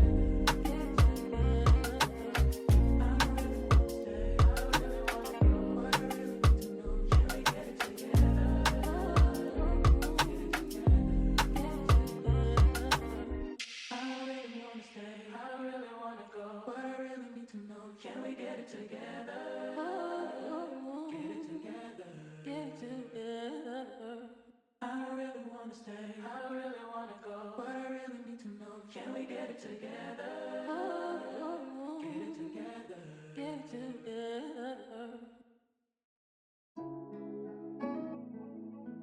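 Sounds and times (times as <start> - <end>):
background music with sung vocal: 0.0 - 35.4.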